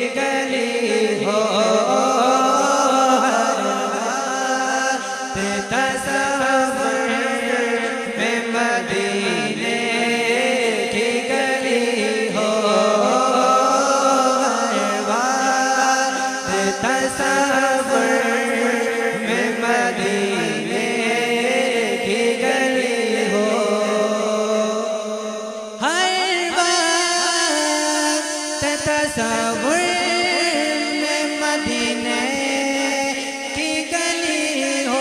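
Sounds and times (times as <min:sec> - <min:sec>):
man singing unaccompanied: 0:00.0 - 0:35.0.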